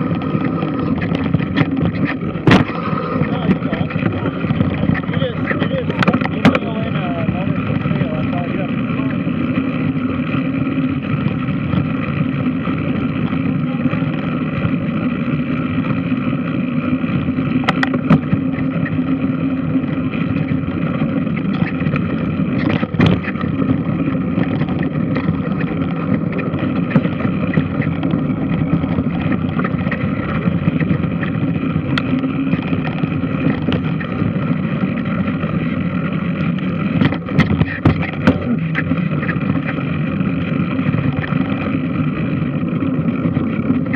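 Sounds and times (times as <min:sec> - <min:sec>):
washing machine drone: 0:00.0 - 0:43.9.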